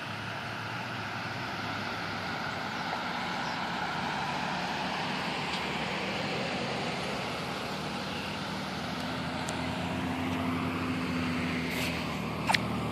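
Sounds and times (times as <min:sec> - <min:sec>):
vehicle engine humming: 0:00.0 - 0:12.9.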